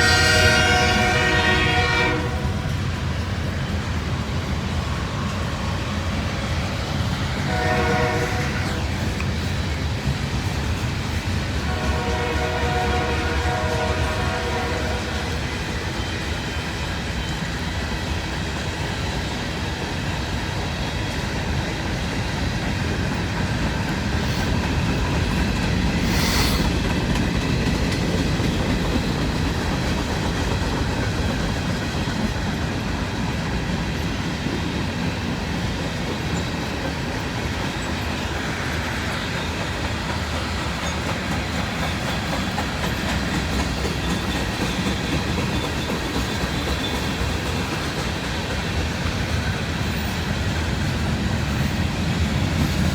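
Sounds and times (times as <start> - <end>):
clickety-clack of wheels: 0.0 - 52.9
freight train rumbling past: 0.0 - 52.9.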